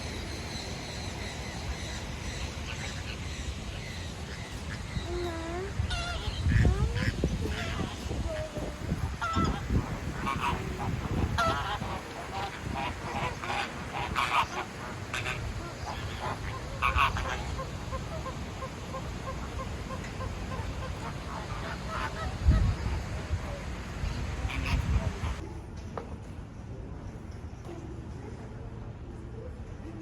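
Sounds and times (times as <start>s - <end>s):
birds honking calls: 0.0s - 25.4s.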